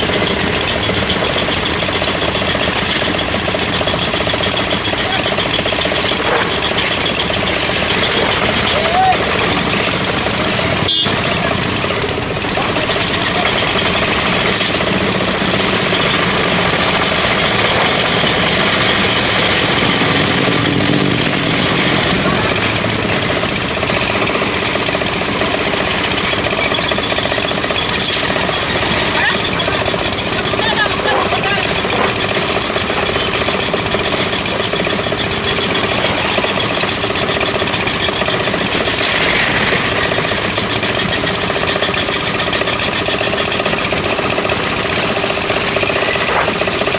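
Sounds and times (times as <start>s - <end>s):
concrete mixer engine running: 0.0s - 46.9s.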